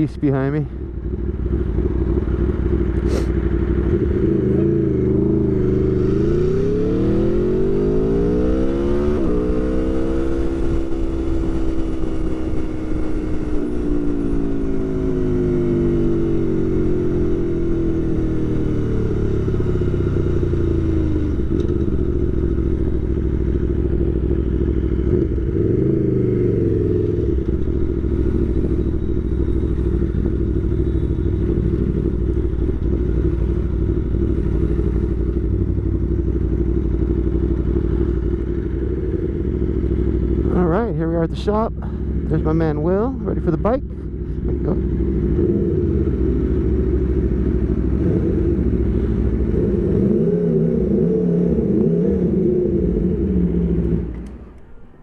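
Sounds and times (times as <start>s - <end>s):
motorcycle engine revving: 0.0s - 54.8s
low wind rumble: 0.0s - 55.0s.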